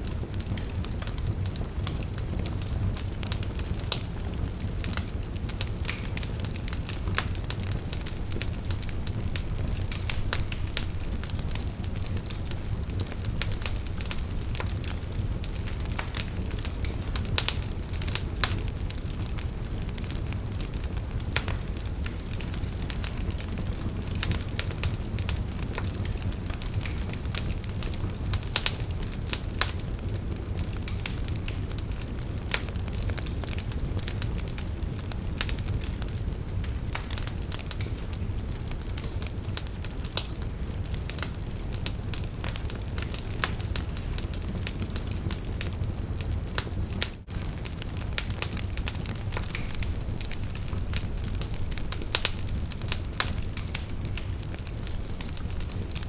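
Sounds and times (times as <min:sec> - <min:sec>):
burning wood crackling and popping: 0:00.0 - 0:56.0
low rumble of flames: 0:00.0 - 0:56.0.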